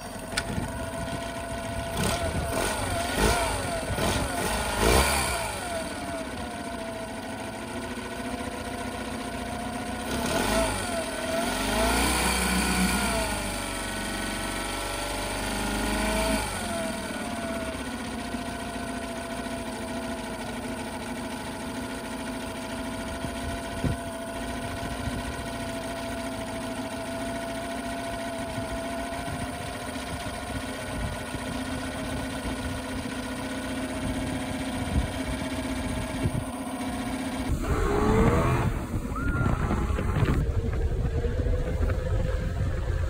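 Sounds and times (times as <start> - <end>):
motorboat engine underway: 0.0 - 8.2, 9.8 - 19.6, 20.2 - 43.0
outboard motor idling: 0.0 - 43.0.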